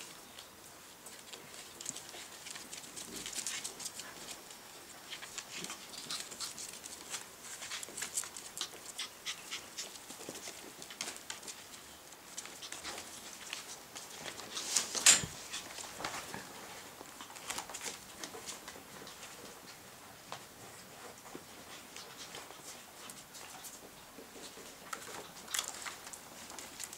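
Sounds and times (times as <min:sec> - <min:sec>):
puppies scuffling: 0:00.0 - 0:26.9
light clicks and scratches: 0:00.3 - 0:19.8, 0:20.6 - 0:26.9.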